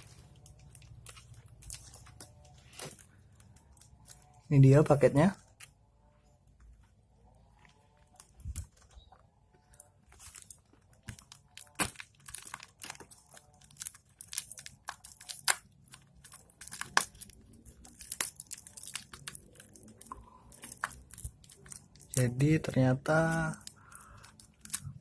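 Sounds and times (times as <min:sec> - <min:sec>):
package wrapping tearing and crinkling: 0:00.0 - 0:04.8, 0:09.6 - 0:25.0.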